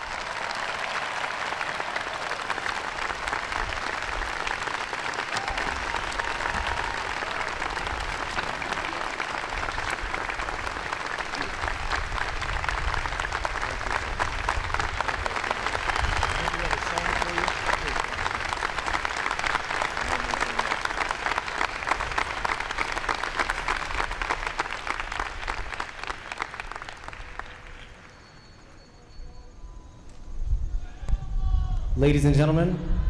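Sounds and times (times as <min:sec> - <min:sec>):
crowd applauding: 0:00.0 - 0:28.9.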